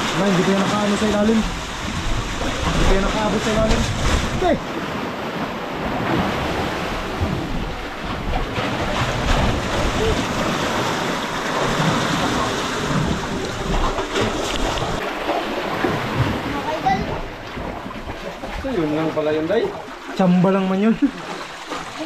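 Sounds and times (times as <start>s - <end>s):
choppy sea: 0.0s - 22.0s.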